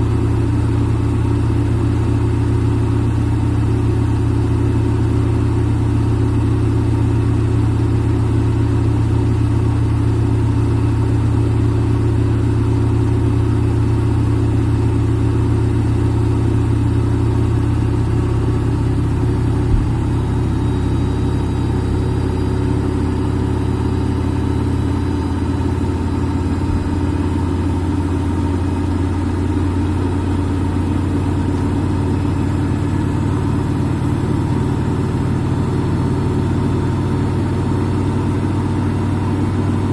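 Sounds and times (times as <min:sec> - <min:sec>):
washing machine spin cycle hum: 0:00.0 - 0:39.9.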